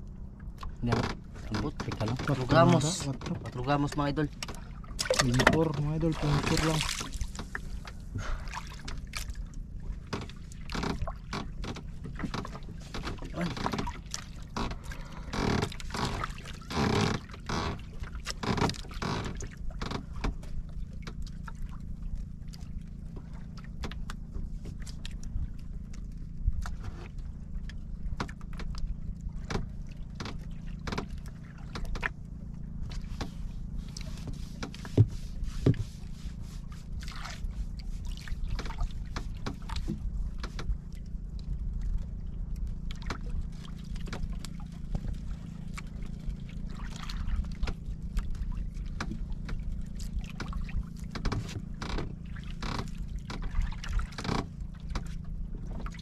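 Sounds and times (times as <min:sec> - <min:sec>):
steady low rumble: 0:00.0 - 0:56.0
water lapping against boat hull: 0:00.0 - 0:56.0.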